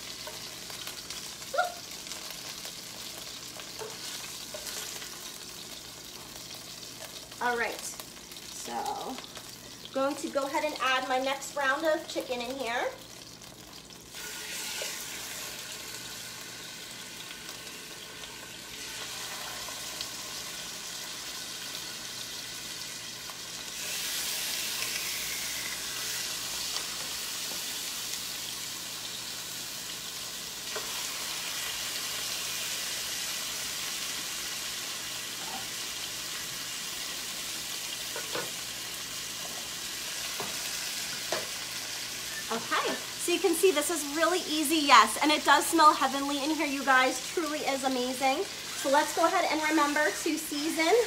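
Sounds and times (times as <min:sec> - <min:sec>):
chicken sizzling in a skillet: 0:00.0 - 0:51.0.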